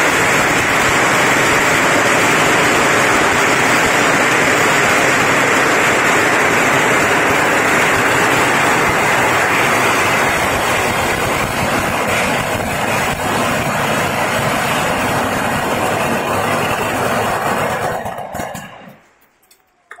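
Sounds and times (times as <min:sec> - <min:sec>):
firecrackers crackling: 0:00.0 - 0:19.9.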